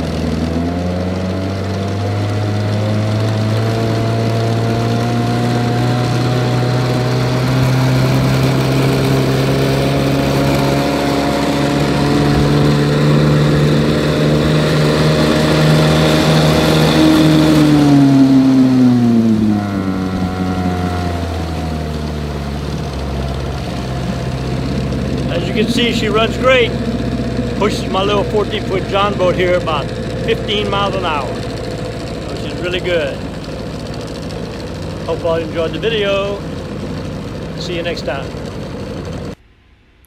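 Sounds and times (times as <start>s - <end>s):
outboard motor running: 0.0s - 39.4s.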